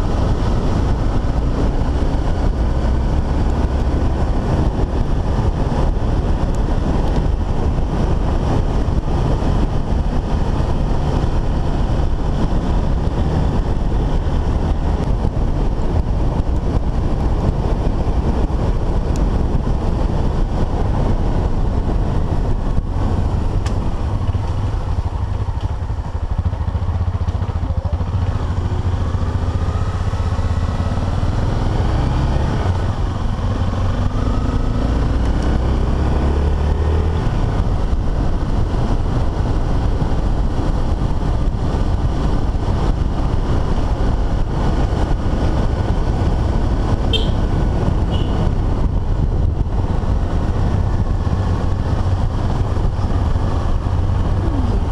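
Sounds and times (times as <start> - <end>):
motorcycle engine drone: 0.0 - 54.9
road rumble: 0.0 - 54.9
wind noise: 0.0 - 54.9.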